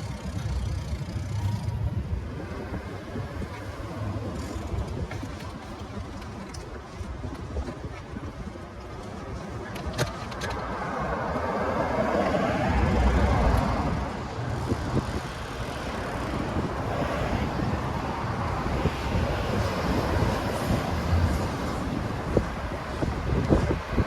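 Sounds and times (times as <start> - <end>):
hum of traffic: 0.0 - 24.0.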